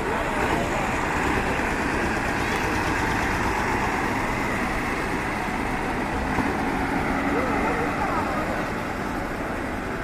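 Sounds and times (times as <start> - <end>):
heavy truck engines idling: 0.0 - 10.0.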